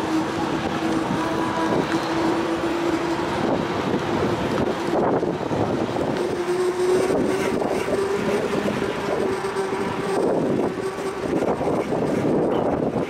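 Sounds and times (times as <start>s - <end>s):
bicycle rushing noise: 0.0s - 13.0s
steady hum: 0.0s - 13.0s
wind on microphone: 0.0s - 13.0s.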